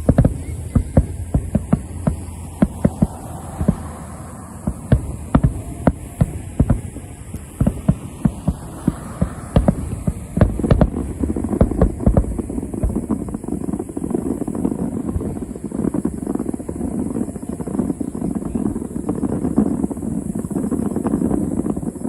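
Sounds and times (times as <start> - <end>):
distant fireworks booming: 0.0 - 22.0.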